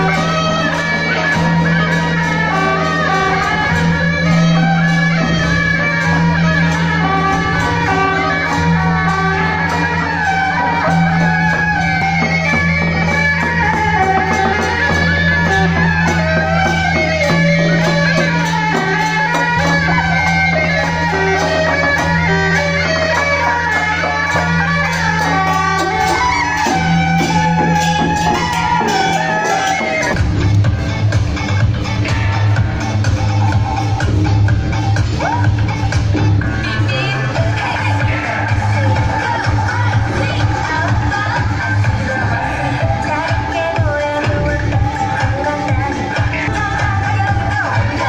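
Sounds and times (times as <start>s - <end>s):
shawm melody: 0.0s - 48.0s.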